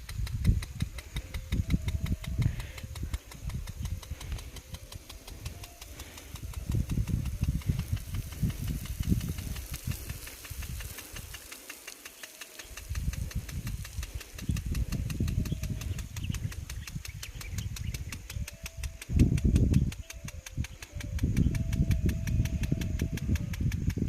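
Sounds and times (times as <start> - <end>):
engine running with fast ticking: 0.0 - 24.0.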